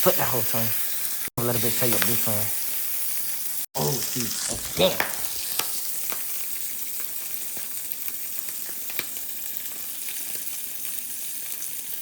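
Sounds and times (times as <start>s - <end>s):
meat sizzling in a pan: 0.0s - 12.0s
crackles and pops: 0.8s - 12.0s.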